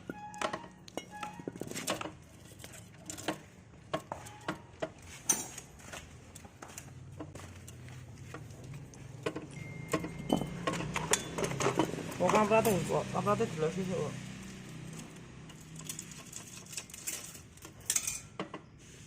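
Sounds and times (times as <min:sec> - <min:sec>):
metal parts and tools clinking: 0:00.0 - 0:18.6.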